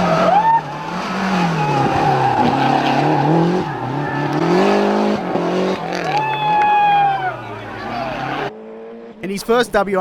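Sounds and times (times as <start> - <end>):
rally car engine revving: 0.0 - 9.3.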